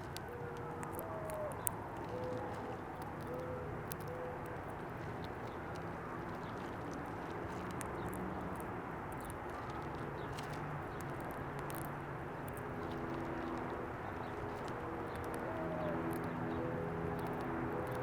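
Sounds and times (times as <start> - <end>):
faint clicks: 0.0 - 18.0.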